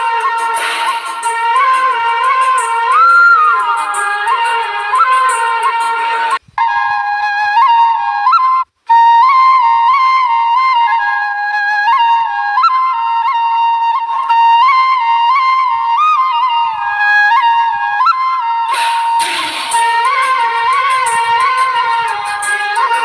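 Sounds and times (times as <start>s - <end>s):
flute melody: 0.0s - 23.0s.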